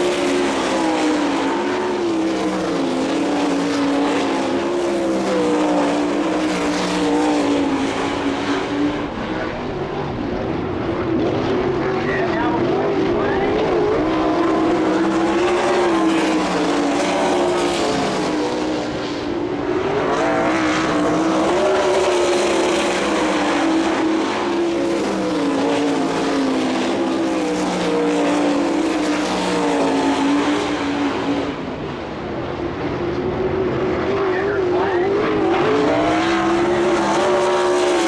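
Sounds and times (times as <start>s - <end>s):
race car engines at high revs: 0.0s - 38.0s.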